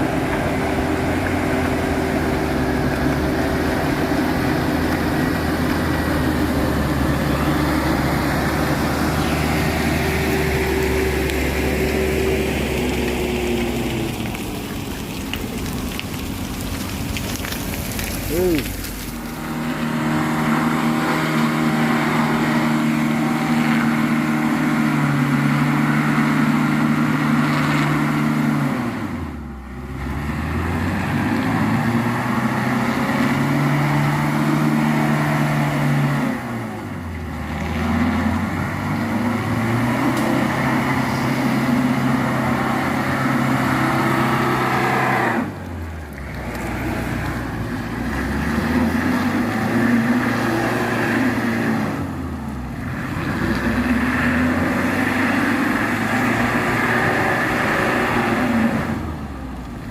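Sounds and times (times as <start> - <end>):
diesel truck engine working hard: 0.0 - 59.9.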